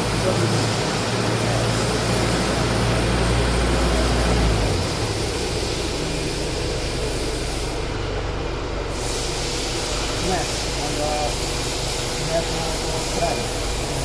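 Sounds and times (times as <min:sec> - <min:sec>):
woodworking machinery running: 0:00.0 - 0:14.0.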